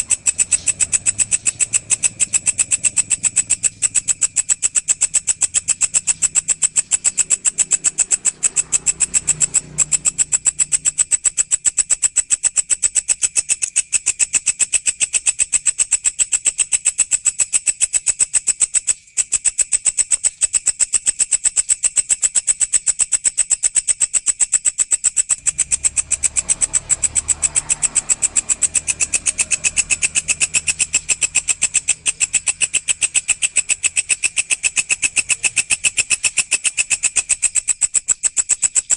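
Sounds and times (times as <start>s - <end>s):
insect stridulating: 0.0s - 38.9s.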